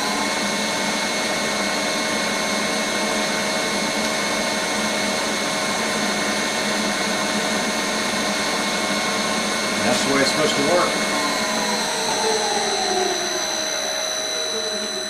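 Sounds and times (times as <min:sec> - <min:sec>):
milling machine motor humming: 0:00.0 - 0:15.0.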